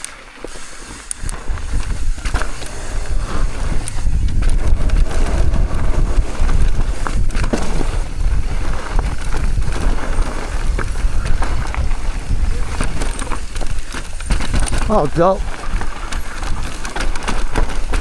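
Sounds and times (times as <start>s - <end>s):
tyres running over dirt: 0.0s - 18.0s
wind buffeting microphone: 1.1s - 18.0s
bike knocks: 1.2s - 18.0s.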